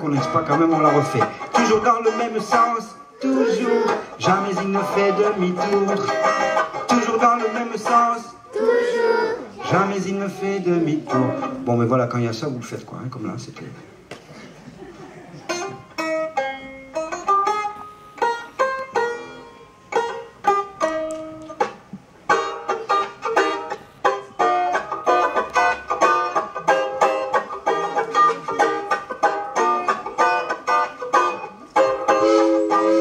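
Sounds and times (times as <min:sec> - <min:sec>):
banjo playing: 0:00.0 - 0:12.1, 0:14.9 - 0:33.0.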